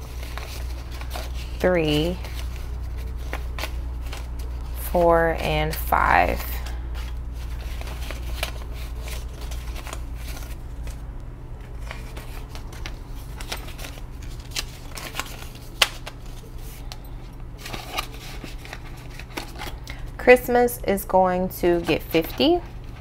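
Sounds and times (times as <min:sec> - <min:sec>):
paper bills rustling: 0:00.0 - 0:20.2, 0:21.7 - 0:23.0.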